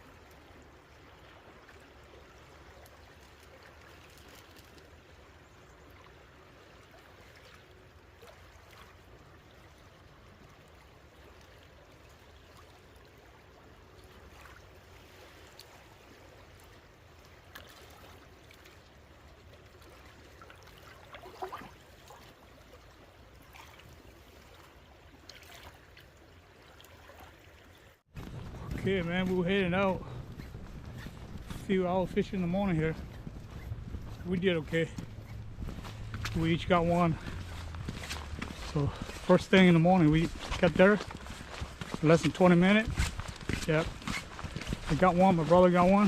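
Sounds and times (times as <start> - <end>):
river water rushing: 6.2 - 46.0.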